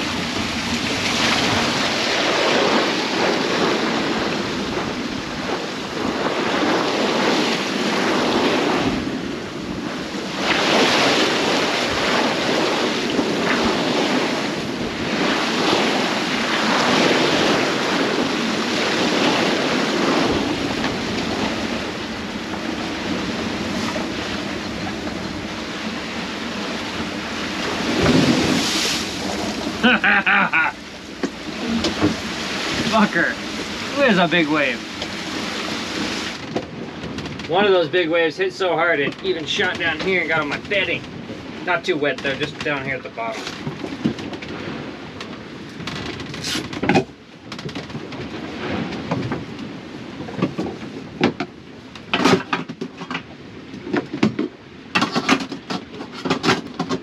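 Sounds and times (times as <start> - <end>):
wind buffeting microphone: 0.0 - 52.2
waves breaking around hull: 0.0 - 57.0.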